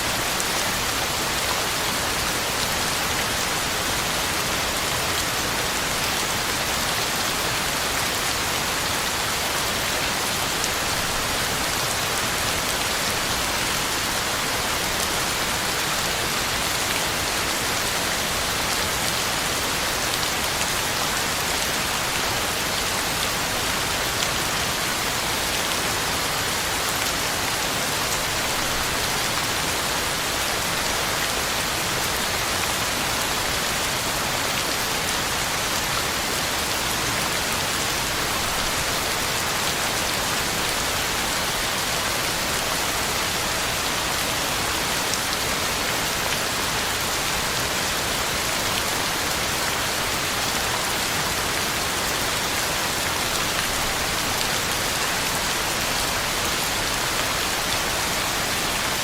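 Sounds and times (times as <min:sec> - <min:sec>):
heavy rain on ground and leaves: 0:00.0 - 0:59.0.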